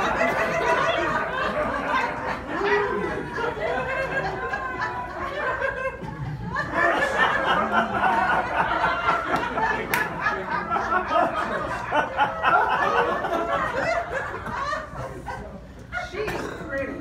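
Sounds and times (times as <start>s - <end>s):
crowd laughing and chattering: 0.0s - 17.0s.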